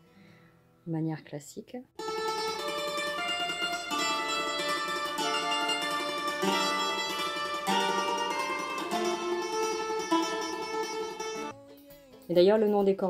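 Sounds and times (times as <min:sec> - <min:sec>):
mandolin tremolo melody: 0:02.0 - 0:13.0.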